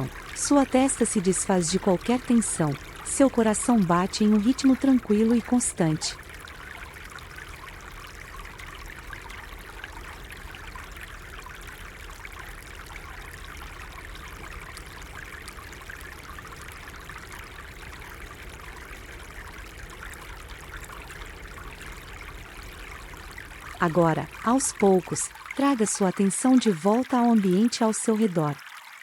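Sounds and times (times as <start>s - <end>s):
stream trickling: 0.0s - 29.0s.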